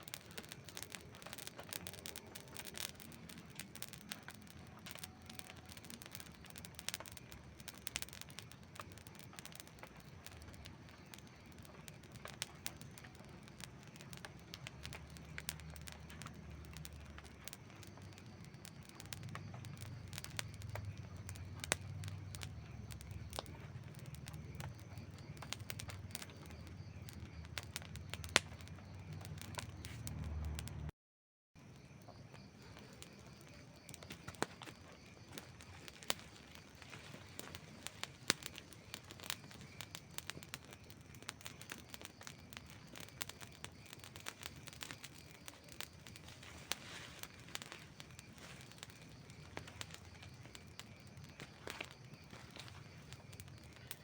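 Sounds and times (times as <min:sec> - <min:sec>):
campfire crackling: 0:00.0 - 0:30.9, 0:31.6 - 0:54.0
low fire rumble: 0:00.0 - 0:30.9, 0:31.6 - 0:54.0.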